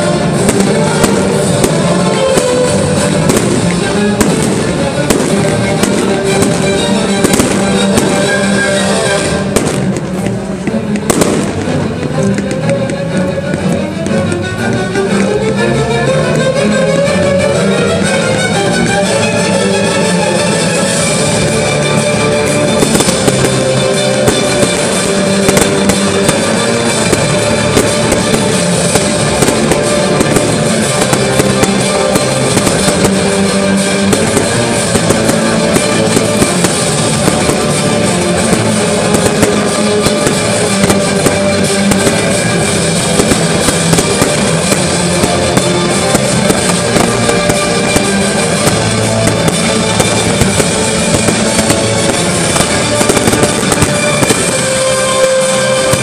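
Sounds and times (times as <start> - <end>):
fireworks bursting and crackling: 0.0 - 56.0
loud music: 0.0 - 56.0.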